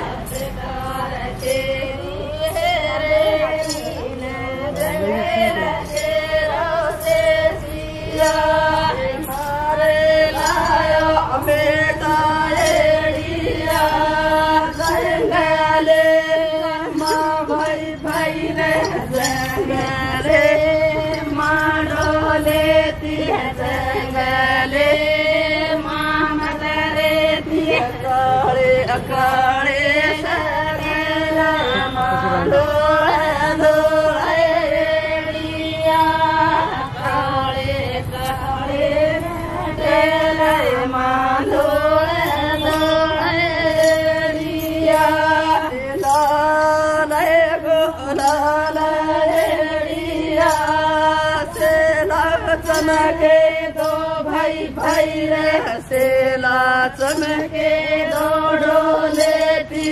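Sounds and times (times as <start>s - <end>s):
women singing in unison: 0.0s - 59.9s.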